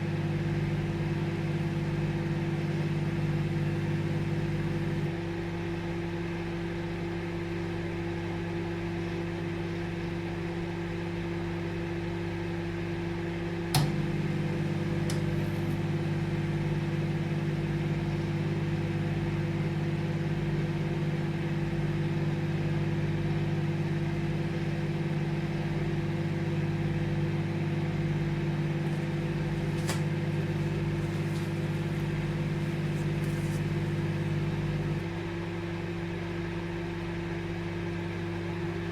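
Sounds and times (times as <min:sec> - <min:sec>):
microwave oven humming: 0:00.0 - 0:38.9.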